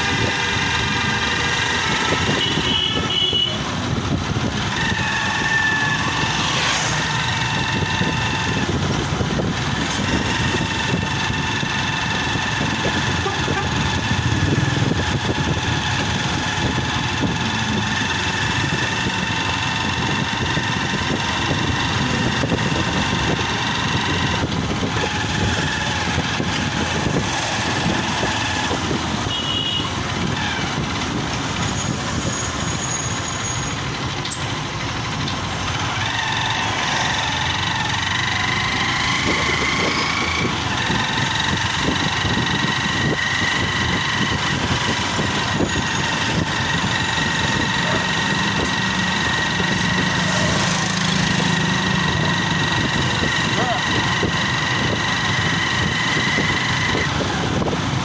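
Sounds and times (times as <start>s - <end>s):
motorcycle engine running: 0.0s - 58.0s
traffic noise: 0.0s - 58.0s.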